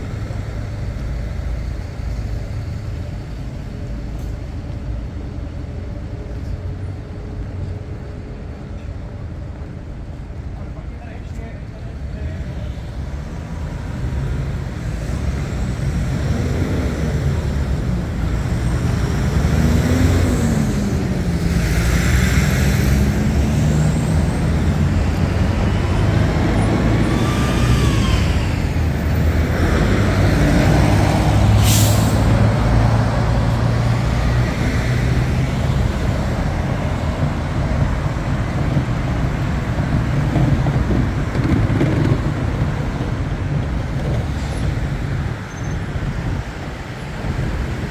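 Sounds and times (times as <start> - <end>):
deep engine drone of traffic: 0.0 - 47.9.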